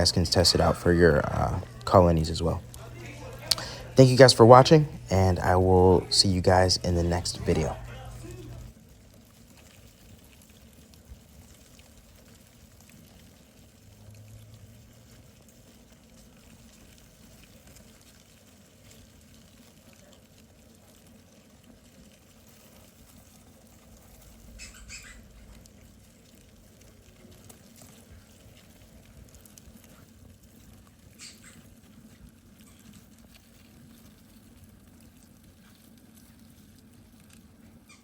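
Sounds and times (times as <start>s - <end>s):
roaches crawling and scratching: 0.0s - 38.0s.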